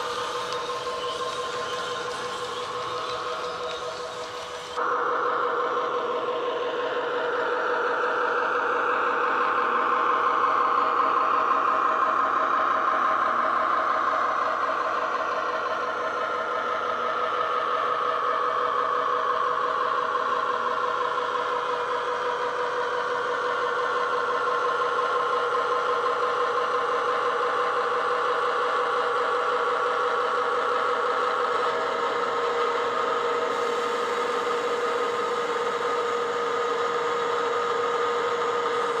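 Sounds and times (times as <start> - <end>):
model diesel engine drone with whine: 0.0 - 39.0.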